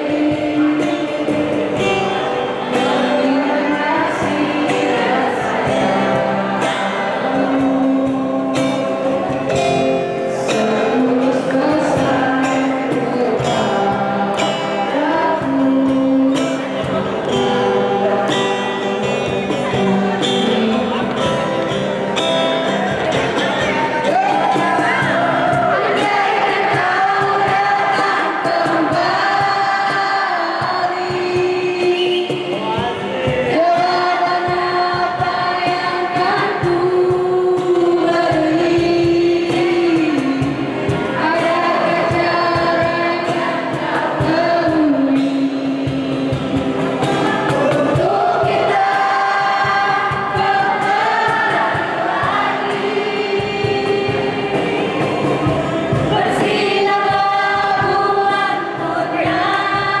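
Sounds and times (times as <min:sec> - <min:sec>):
person singing: 0:00.0 - 0:21.8, 0:23.2 - 1:00.0
strummed acoustic guitar: 0:00.0 - 1:00.0.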